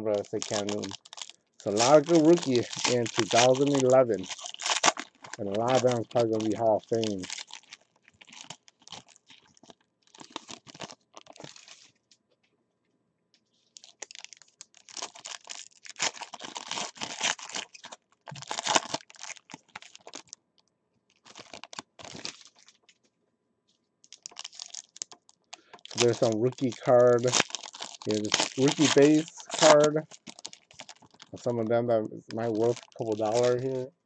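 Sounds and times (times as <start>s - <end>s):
foil wrappers crinkling and tearing: 0.0s - 12.0s, 13.6s - 20.4s, 21.1s - 23.0s, 24.1s - 31.7s, 32.3s - 33.9s.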